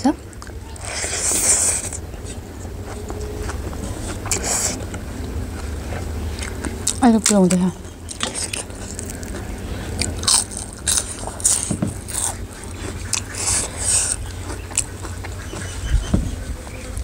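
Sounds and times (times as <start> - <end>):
person chewing crunchy food: 0.2 - 17.0.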